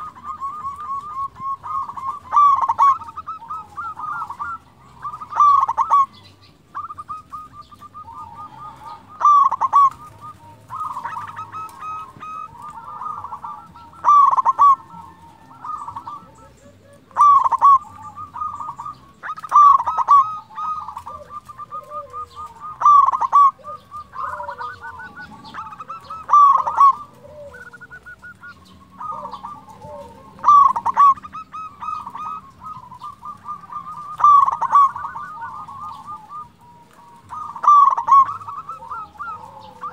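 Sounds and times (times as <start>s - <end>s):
dove cooing song: 0.0s - 39.9s
soft trilling coos: 0.0s - 39.9s.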